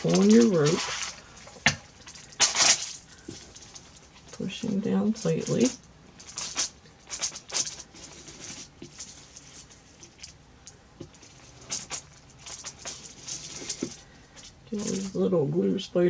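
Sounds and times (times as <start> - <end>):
rope rustling and scraping: 0.0 - 15.2.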